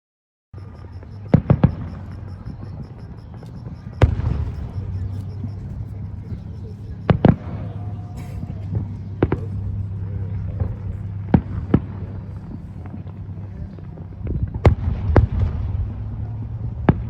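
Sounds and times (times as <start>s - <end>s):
steady low hum: 0.6s - 17.0s.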